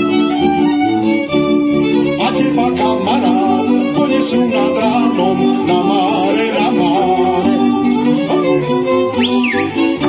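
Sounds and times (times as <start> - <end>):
folk string band playing: 0.0 - 10.0.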